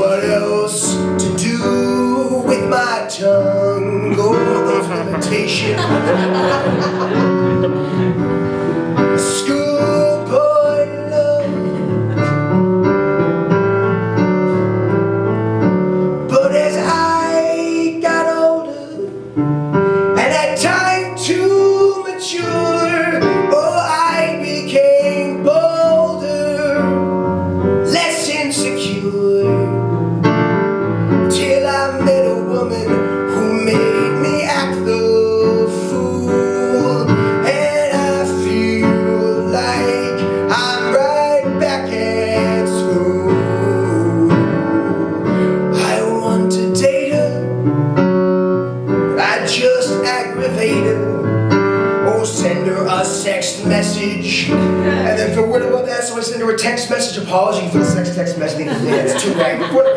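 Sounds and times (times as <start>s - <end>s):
keyboard-led band music: 0.0s - 59.9s.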